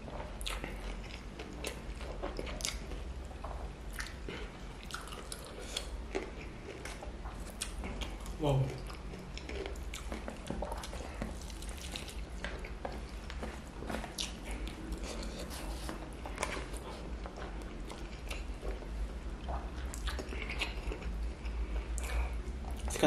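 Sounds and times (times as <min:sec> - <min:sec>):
steady low hum: 0:00.0 - 0:23.0
wet chewing and lip smacks: 0:00.1 - 0:23.0.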